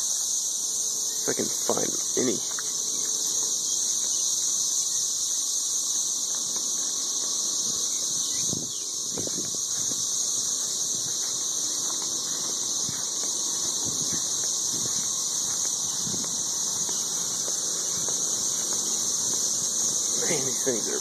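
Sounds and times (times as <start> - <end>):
cicadas shrill drone: 0.0 - 21.0.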